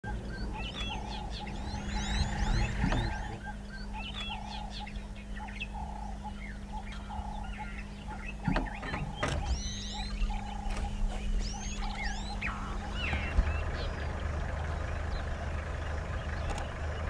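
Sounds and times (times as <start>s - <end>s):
birds chirping and whistling: 0.0s - 17.0s
steady low hum: 0.0s - 17.0s.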